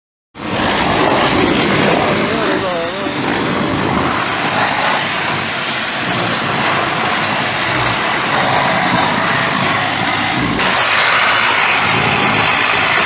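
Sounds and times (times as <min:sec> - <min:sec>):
high-pressure water jet spraying: 0:00.4 - 0:13.0.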